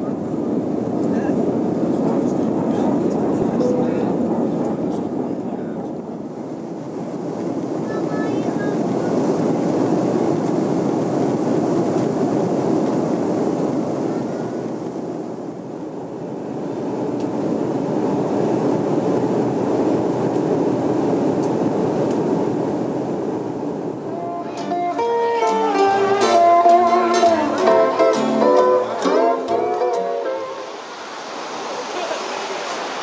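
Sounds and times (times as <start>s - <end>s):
airliner cabin rushing hum: 0.0s - 33.0s.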